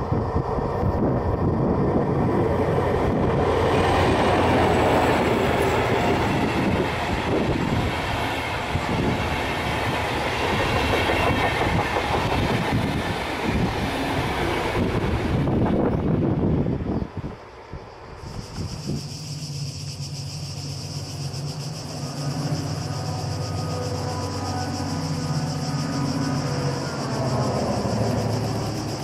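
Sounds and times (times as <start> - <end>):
diesel locomotive passing: 0.0 - 29.0
train wheels on rails: 0.0 - 29.0.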